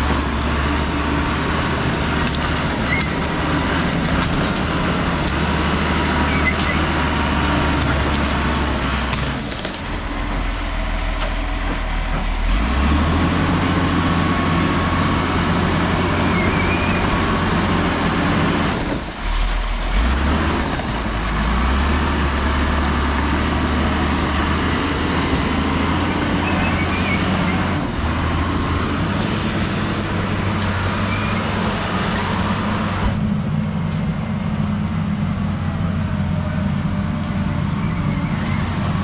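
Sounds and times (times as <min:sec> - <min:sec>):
bulldozer diesel engine under load: 0:00.0 - 0:39.0.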